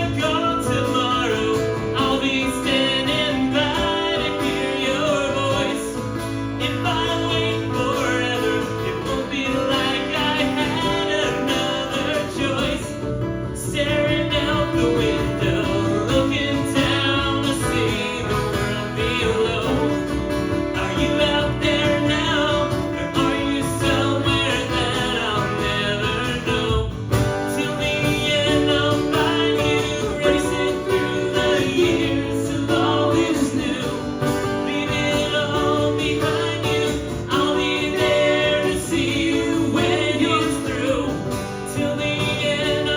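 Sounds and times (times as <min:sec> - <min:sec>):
acoustic guitar strumming: 0:00.0 - 0:42.9
man singing: 0:00.0 - 0:42.9.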